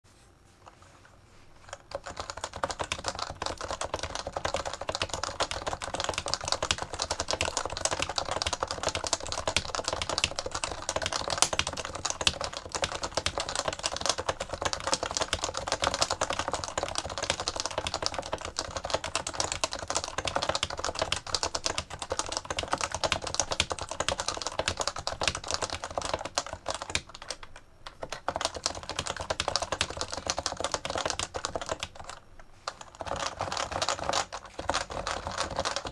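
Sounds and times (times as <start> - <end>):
fast keyboard typing: 1.6 - 35.9.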